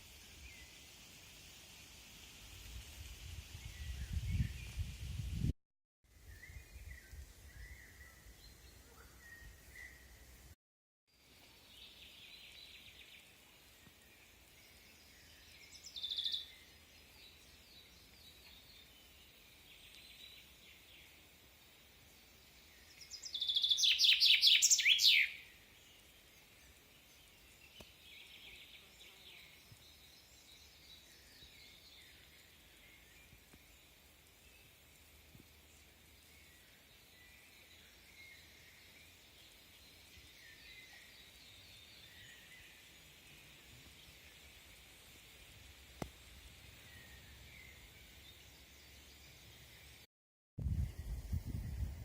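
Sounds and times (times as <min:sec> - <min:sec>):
faint background hiss: 0:00.0 - 0:05.4, 0:11.2 - 0:50.0
wild birds singing: 0:06.2 - 0:10.6, 0:11.3 - 0:21.3, 0:22.0 - 0:50.0.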